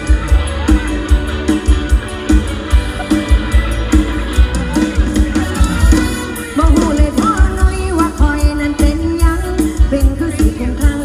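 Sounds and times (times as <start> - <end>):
bass drum beat: 0.0 - 11.0
live band music: 0.0 - 11.0.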